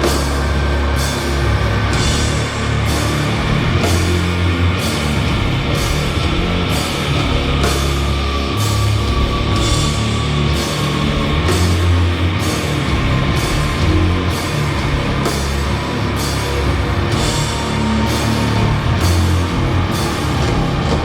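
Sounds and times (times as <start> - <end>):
distorted guitars and bass riff: 0.0 - 21.0.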